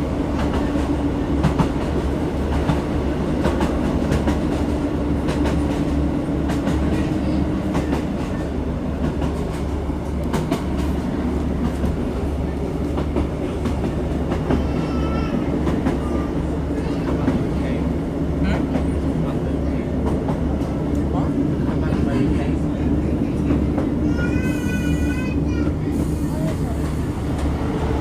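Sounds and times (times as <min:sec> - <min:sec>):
train engine and wheels rumbling: 0:00.0 - 0:28.0.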